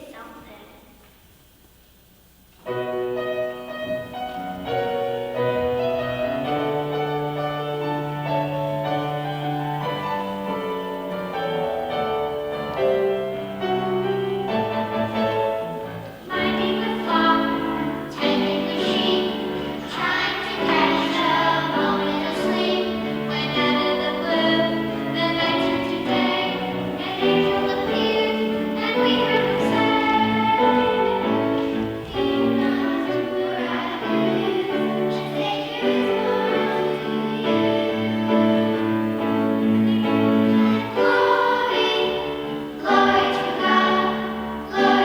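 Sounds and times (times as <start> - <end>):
choir singing with accompaniment: 2.7 - 45.0.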